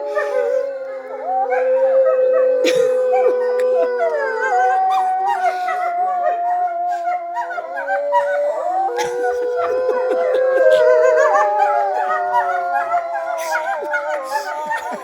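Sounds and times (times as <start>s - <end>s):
wolves howling in chorus: 0.0s - 15.0s.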